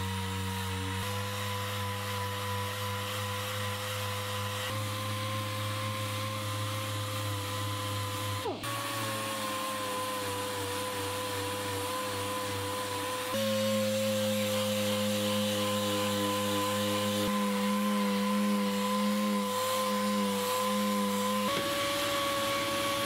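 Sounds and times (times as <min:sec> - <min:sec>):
orbital sander whining: 0:00.0 - 0:23.0.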